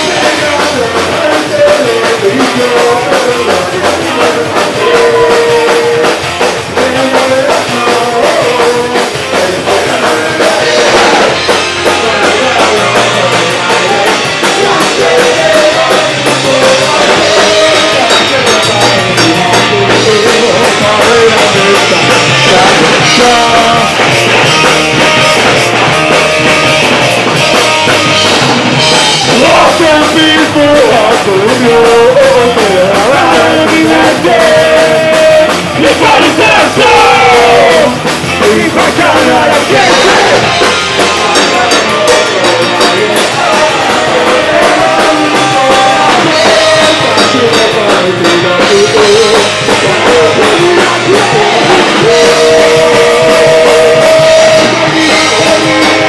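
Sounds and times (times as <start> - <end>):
drum kit: 0.0 - 56.0
electric bass: 0.0 - 56.0
electric guitar: 0.0 - 56.0
person singing: 0.0 - 56.0.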